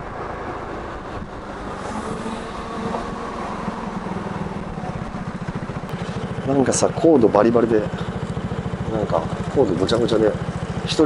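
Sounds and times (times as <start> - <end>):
scooter engine running: 0.2 - 11.0.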